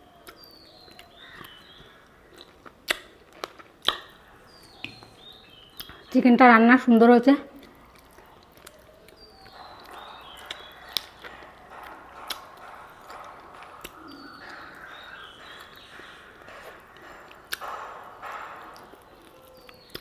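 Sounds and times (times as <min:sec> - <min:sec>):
wet chewing and mouth noises: 0:00.1 - 0:06.2, 0:07.4 - 0:20.0.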